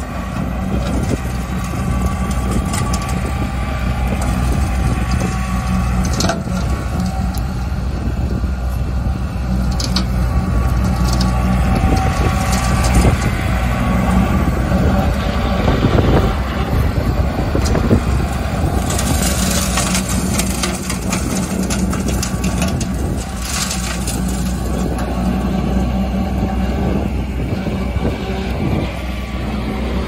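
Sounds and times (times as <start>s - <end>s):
crackling of brush being shredded: 0.0s - 30.0s
tractor engine running: 0.0s - 30.0s.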